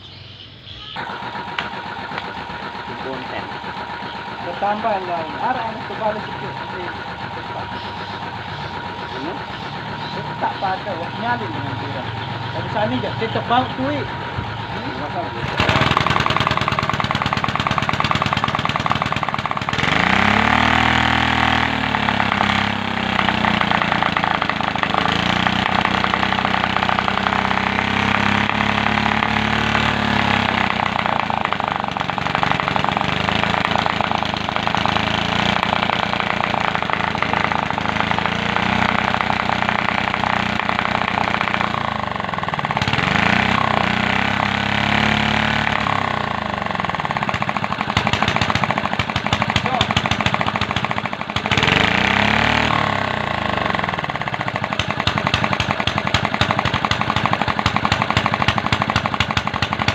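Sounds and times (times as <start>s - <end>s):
longtail boat engine running: 1.0s - 59.9s.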